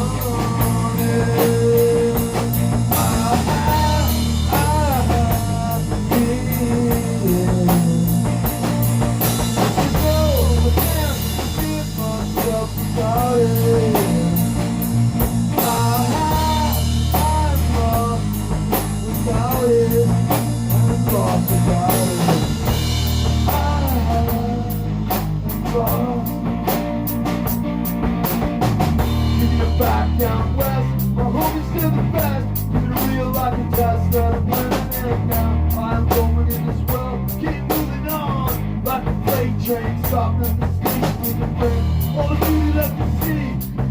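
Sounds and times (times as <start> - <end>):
drum kit: 0.0 - 43.9
lead guitar line with bent notes: 0.0 - 43.9
low bass notes: 0.0 - 43.9
rock-blues band music: 0.0 - 43.9.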